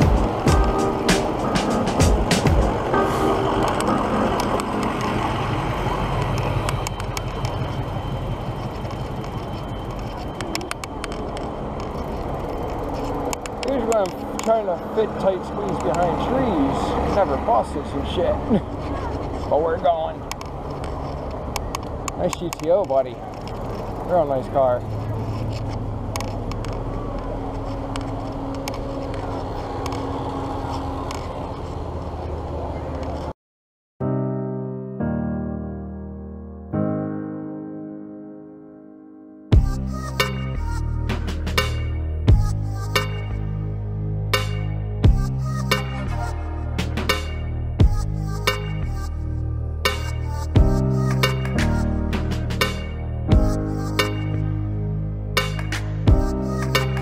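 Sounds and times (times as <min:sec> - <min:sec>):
engines humming low: 0:00.0 - 0:33.3, 0:39.6 - 0:57.0
traffic noise: 0:00.0 - 0:33.4, 0:39.5 - 0:57.0.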